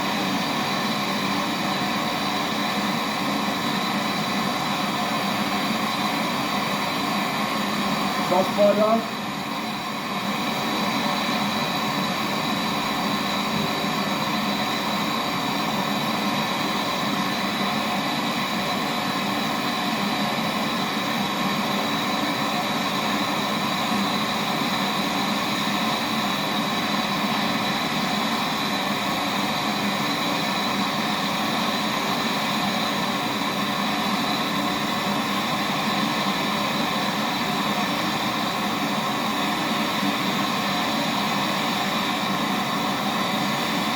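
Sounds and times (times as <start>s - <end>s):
gas torch hissing: 0.0s - 43.9s.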